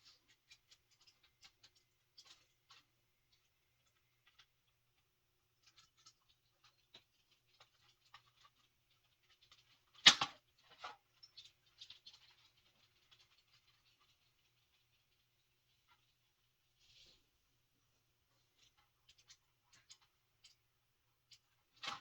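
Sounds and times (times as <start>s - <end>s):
clicks and rustling of small parts: 0.0s - 5.0s, 5.6s - 16.1s, 18.6s - 22.0s.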